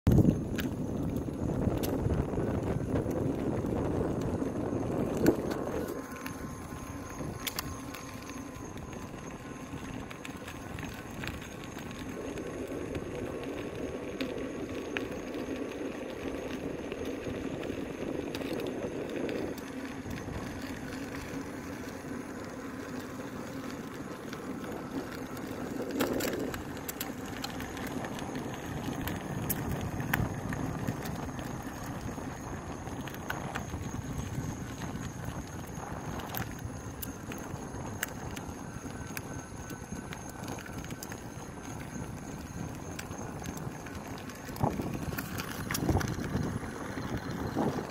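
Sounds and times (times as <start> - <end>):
electric unicycle rolling: 0.1 - 47.9.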